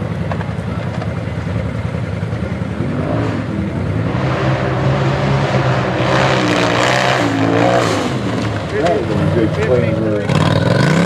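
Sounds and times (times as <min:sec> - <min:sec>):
buggy engine running hard: 0:00.0 - 0:11.0.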